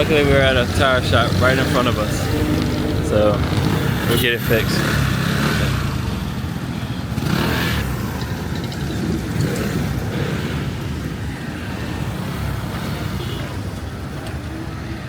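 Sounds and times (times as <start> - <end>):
motorbikes and cars passing: 0.0 - 15.0.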